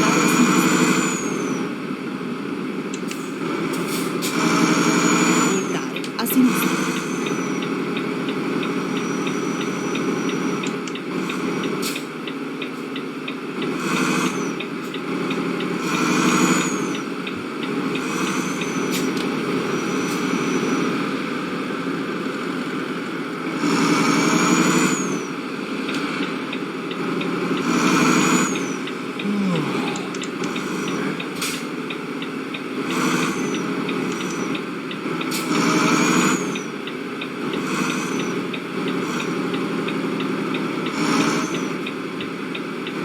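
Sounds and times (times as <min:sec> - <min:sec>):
vehicle engine and road noise: 0:00.0 - 0:43.0.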